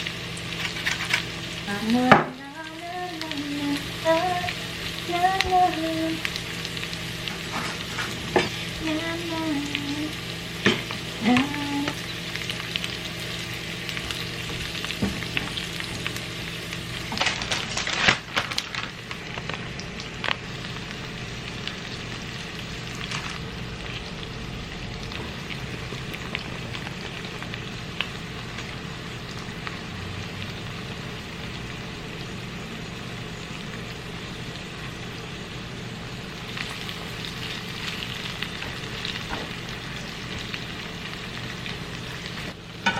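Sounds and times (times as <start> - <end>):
food sizzling in frying pan: 0.0 - 42.9.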